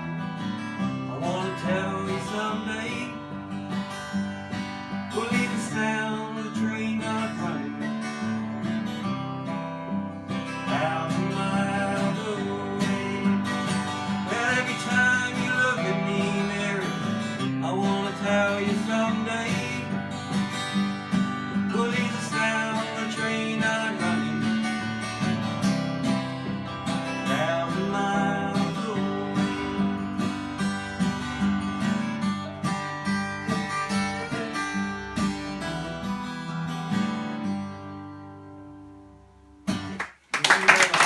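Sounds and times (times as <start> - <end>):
acoustic guitar picked and strummed: 0.0 - 40.3.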